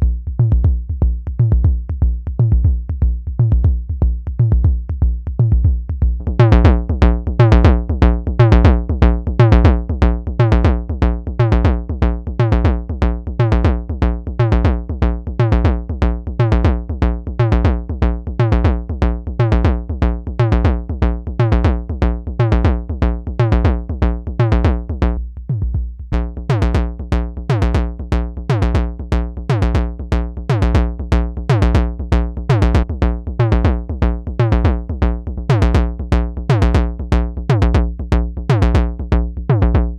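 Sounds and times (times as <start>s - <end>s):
constant low synth bass: 0.0s - 39.9s.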